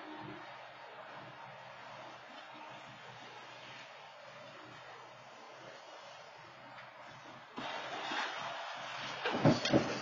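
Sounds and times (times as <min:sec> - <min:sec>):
road traffic hiss: 0:00.0 - 0:10.0.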